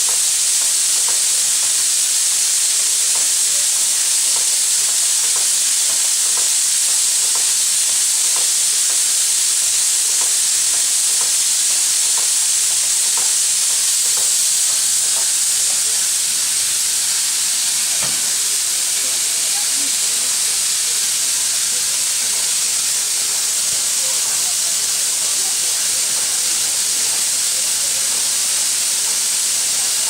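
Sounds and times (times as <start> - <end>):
steam hissing: 0.0 - 30.0.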